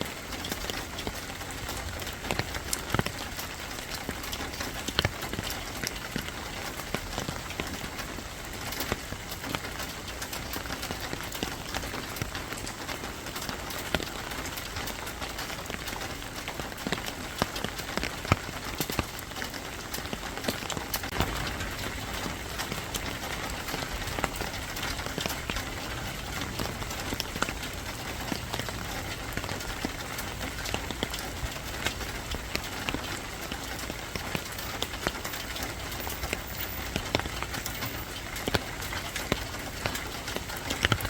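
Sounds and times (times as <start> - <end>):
rain hissing: 0.0 - 41.0
raindrops tapping a surface: 0.0 - 41.0.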